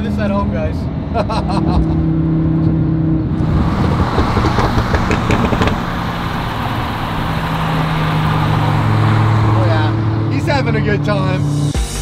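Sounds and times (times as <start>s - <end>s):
sports car engine droning: 0.0s - 11.8s.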